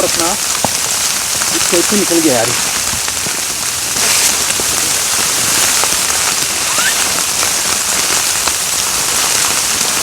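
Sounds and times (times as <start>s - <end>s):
rain and snow falling: 0.0s - 10.0s.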